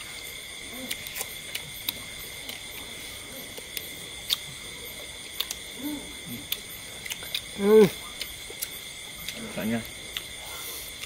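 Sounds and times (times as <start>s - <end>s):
night insects chirring: 0.0s - 11.0s
people chewing and eating: 0.0s - 11.0s.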